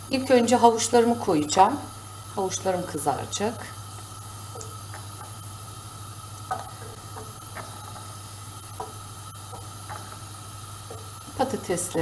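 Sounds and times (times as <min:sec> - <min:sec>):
steady low hum: 0:00.0 - 0:12.0
carrot slices sizzling in oil: 0:00.1 - 0:12.0.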